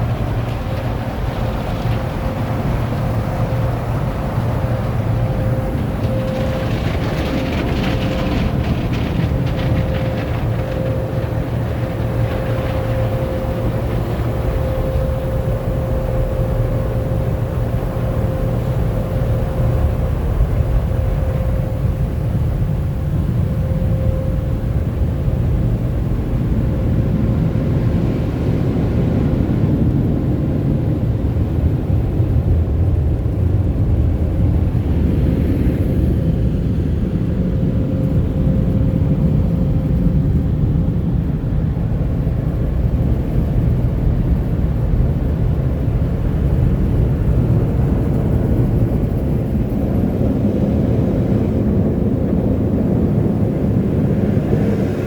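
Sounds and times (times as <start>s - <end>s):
car wash brushes and water rumble: 0.0s - 55.0s
steady whine: 0.0s - 55.0s.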